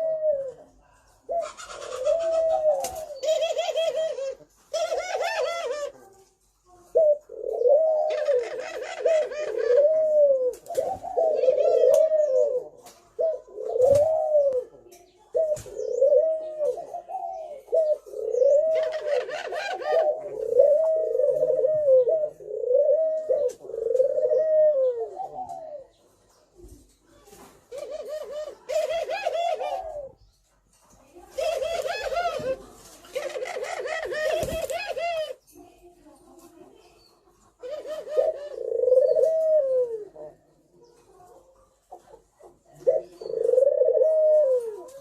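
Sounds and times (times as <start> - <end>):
dove cooing: 0.0 - 6.2, 6.8 - 26.9, 27.7 - 30.3, 31.2 - 35.6, 36.7 - 45.0.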